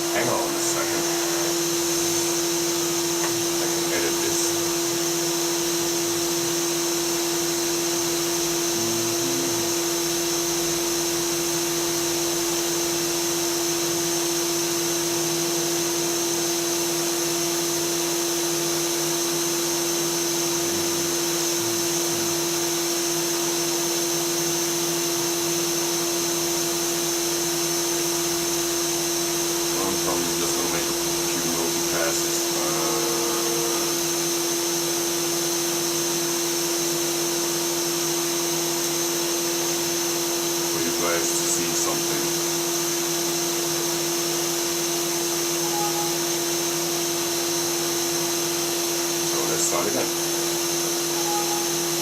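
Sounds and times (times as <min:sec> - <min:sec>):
spindle motor high whine: 0:00.0 - 0:52.0.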